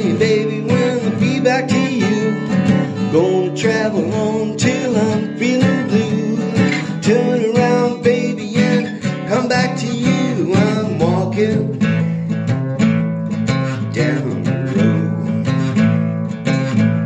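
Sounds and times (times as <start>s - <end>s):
person singing: 0.0s - 12.3s, 13.7s - 15.7s
strummed acoustic guitar: 0.0s - 17.0s.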